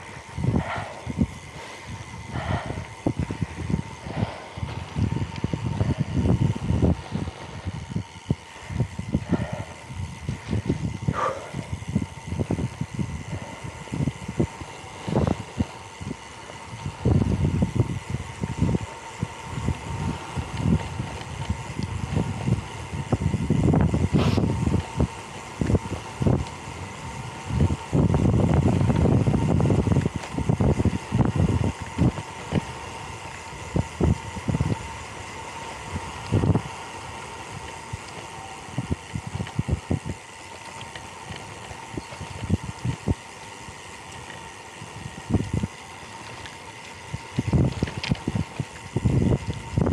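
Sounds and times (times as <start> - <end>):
faint high whine: 0.0 - 49.9
wind buffeting microphone: 0.0 - 49.9.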